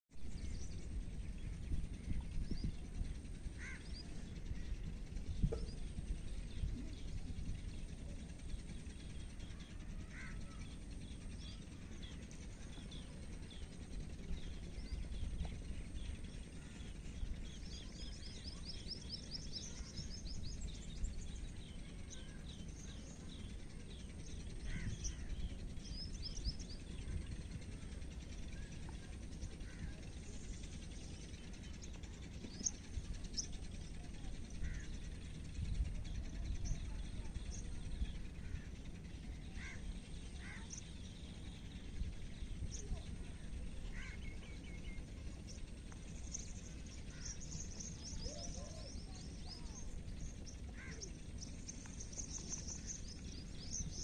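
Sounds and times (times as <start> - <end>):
low rumbling noise: 0.1 - 54.0
lower bird calls: 0.2 - 54.0
small birds chirping: 0.2 - 54.0.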